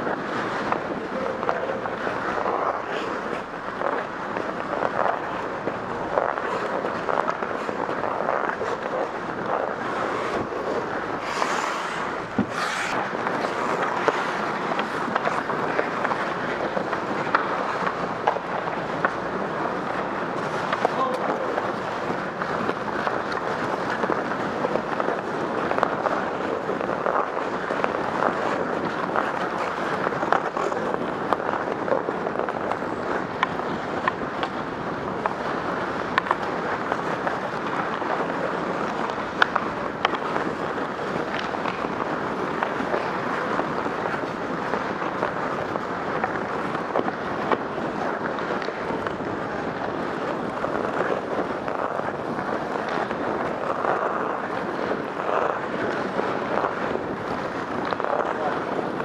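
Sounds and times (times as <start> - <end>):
ice skates scraping on ice: 0.0 - 59.0
wind on microphone: 0.0 - 59.0.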